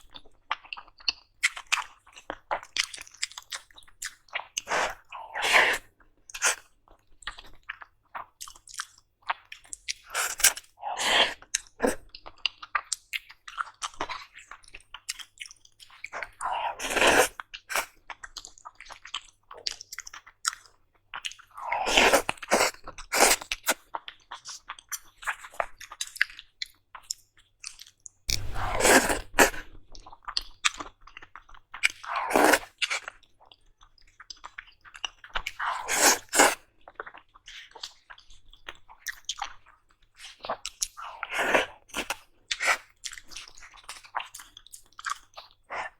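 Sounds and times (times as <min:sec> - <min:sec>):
person chewing food: 0:00.0 - 0:45.9
food crunching: 0:00.5 - 0:45.9.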